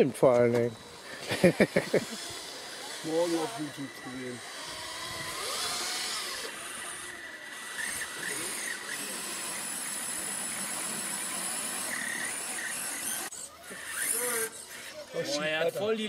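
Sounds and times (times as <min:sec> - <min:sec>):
electric motors and gearboxes whining: 0:00.0 - 0:16.0.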